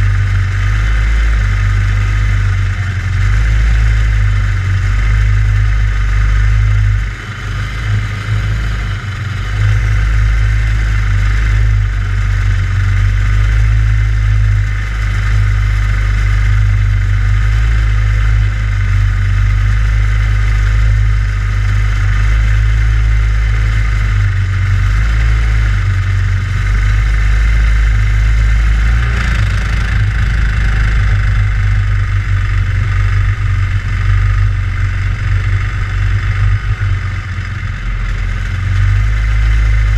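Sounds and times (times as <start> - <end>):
go-kart engine idling: 0.0 - 39.9.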